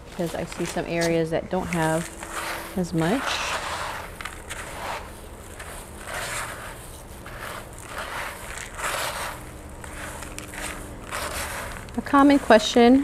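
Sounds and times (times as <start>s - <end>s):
hands stirring wood chips and bark: 0.0s - 13.0s.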